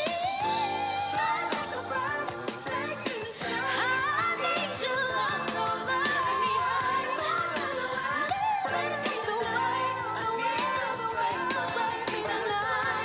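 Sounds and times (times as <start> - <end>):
band accompaniment: 0.0 - 13.0
woman singing soulful ballad: 0.0 - 13.0.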